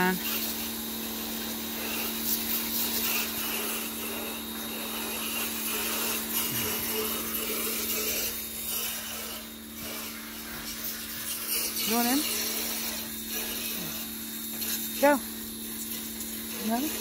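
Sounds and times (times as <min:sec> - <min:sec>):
pressure washer motor humming: 0:00.0 - 0:17.0
water jet hissing: 0:00.0 - 0:17.0.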